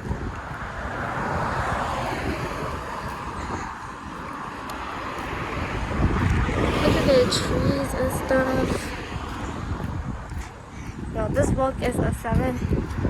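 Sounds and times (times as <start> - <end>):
vehicle passing: 0.0 - 13.0
wind buffeting microphone: 0.0 - 13.0.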